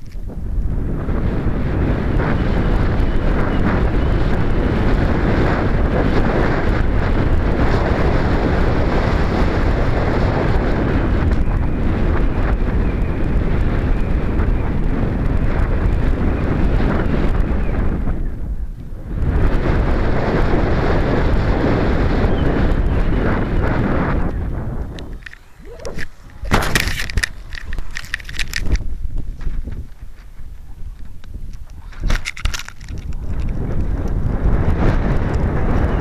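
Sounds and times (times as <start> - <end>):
strong wind on microphone: 0.0 - 36.0.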